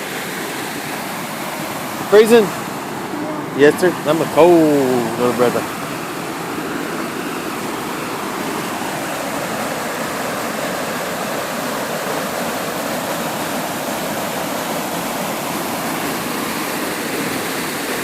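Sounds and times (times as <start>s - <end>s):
water rushing over waterfall: 0.0s - 18.0s.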